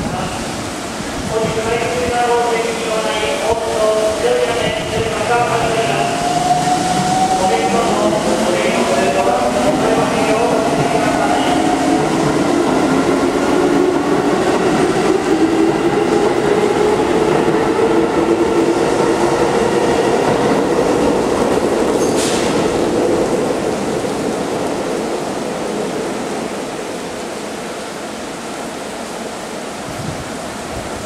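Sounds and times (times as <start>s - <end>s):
electric train humming: 2.6s - 27.4s.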